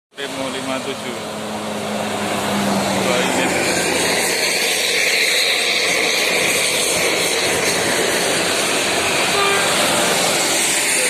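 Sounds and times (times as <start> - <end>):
road traffic rushing: 0.1 - 11.0.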